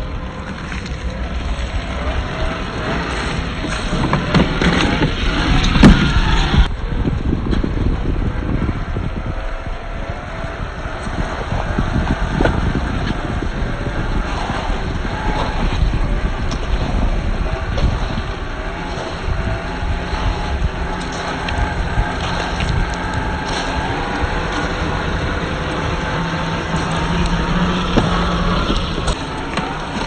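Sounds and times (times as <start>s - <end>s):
electric motor and gears whining: 0.0s - 30.0s
wind rumble on microphone: 0.0s - 30.0s.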